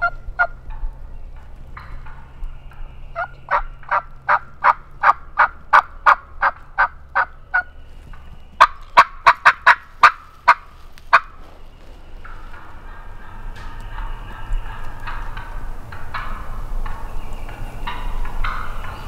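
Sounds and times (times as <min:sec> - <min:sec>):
turkey sharp cutting notes: 0:00.0 - 0:19.0
wild turkey yelping: 0:00.0 - 0:19.0.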